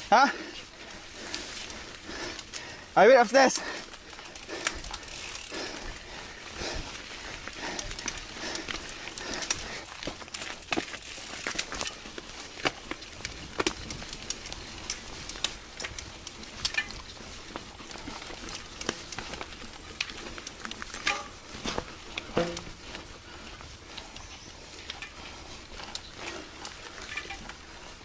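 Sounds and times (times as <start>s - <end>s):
bike clattering over rough trail: 0.0s - 28.0s.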